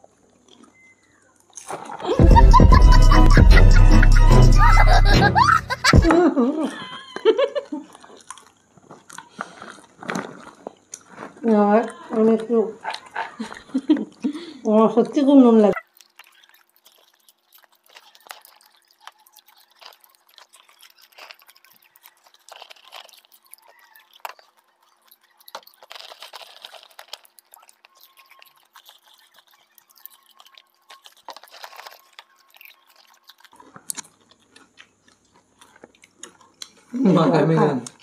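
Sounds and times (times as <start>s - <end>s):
people crunching popcorn: 0.0s - 38.0s.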